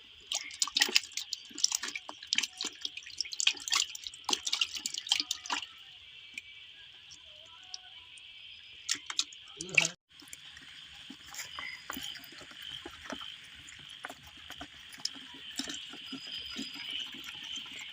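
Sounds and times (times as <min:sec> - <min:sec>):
frogs and insects calling: 0:00.0 - 0:17.9
water drips and splashes: 0:00.0 - 0:17.9.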